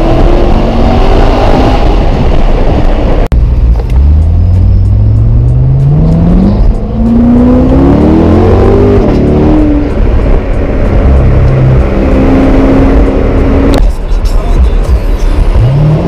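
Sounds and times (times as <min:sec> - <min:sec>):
car engine accelerating: 0:00.0 - 0:16.0
wind noise: 0:00.0 - 0:16.0.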